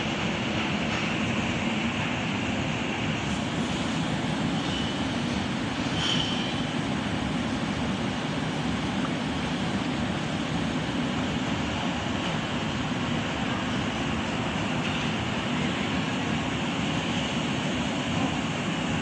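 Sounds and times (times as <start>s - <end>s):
water rushing along a canal: 0.0s - 19.0s.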